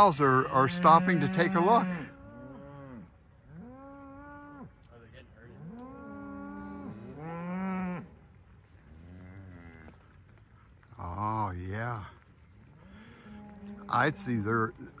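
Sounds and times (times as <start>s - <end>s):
cattle mooing: 0.0s - 4.8s, 5.5s - 8.2s, 8.8s - 10.1s, 11.5s - 15.0s.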